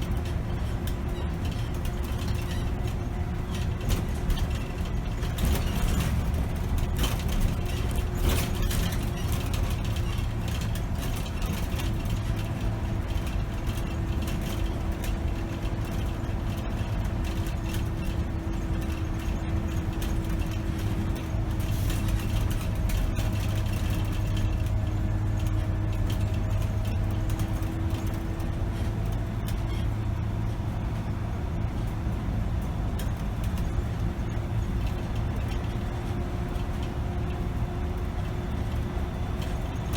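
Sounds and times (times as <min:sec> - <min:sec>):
bus engine rumble: 0:00.0 - 0:39.9
drivetrain whine: 0:00.0 - 0:39.9.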